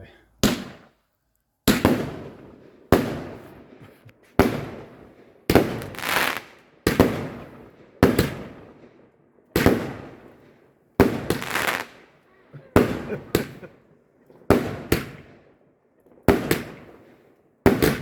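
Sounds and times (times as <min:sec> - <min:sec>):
fireworks bangs with echoing rumble: 0:00.4 - 0:01.0, 0:01.6 - 0:13.8, 0:14.4 - 0:18.0.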